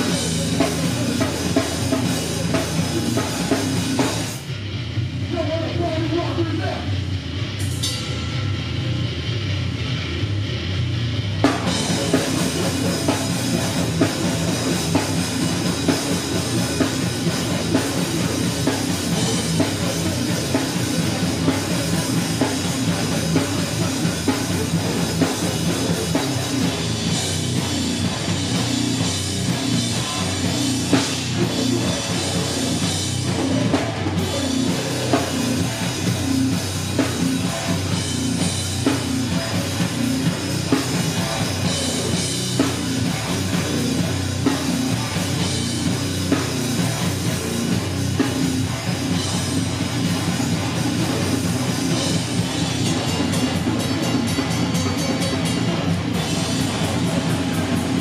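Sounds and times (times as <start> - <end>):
drum kit beat: 0.0 - 58.0
heavy rock band playing: 0.0 - 58.0.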